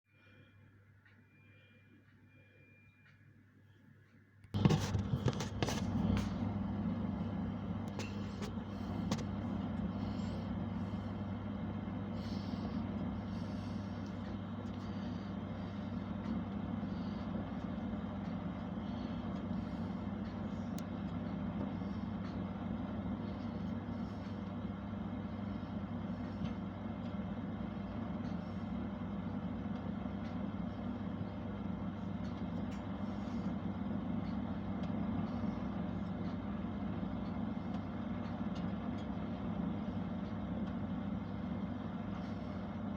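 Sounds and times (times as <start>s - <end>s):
oven humming: 4.5s - 42.9s.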